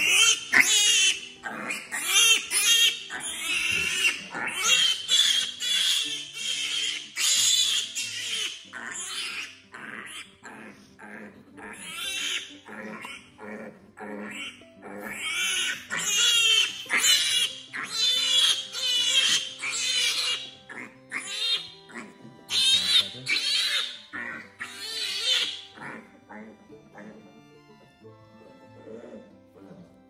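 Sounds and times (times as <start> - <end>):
piglet squealing: 0.0 - 27.3.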